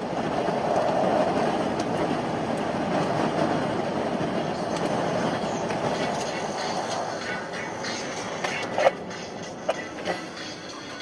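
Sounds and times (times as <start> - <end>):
moving vehicle rumble: 0.0 - 11.0.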